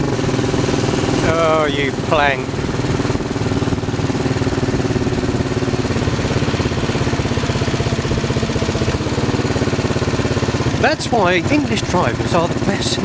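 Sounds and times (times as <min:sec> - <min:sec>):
wind and road noise: 0:00.0 - 0:12.8
motorcycle engine running: 0:00.0 - 0:13.0.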